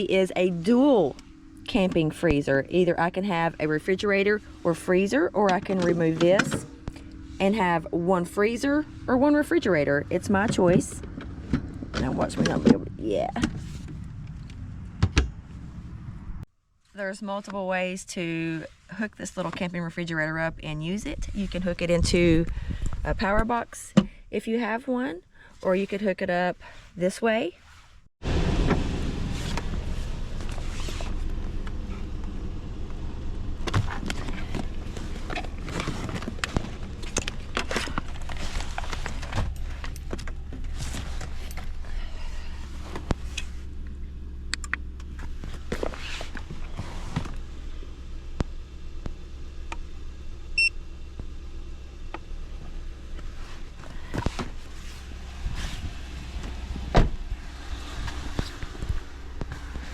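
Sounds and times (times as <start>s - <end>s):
vehicle cabin rumble: 0.0s - 59.9s.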